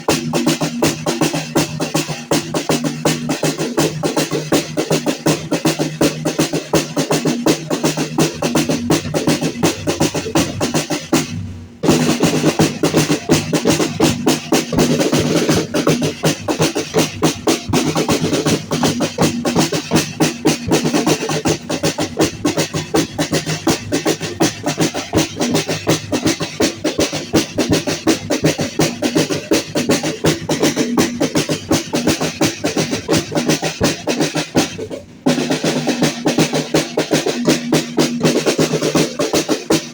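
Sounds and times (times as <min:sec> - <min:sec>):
dance music with fast drumbeat: 0:00.0 - 0:39.9.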